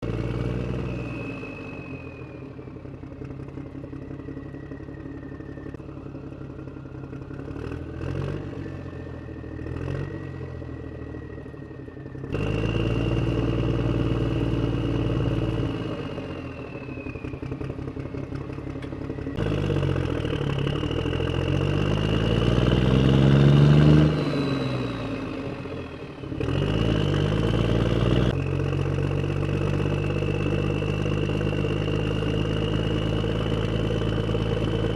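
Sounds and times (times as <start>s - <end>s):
engine revving: 0.0s - 2.5s, 7.4s - 11.0s, 12.2s - 18.0s, 18.8s - 34.9s.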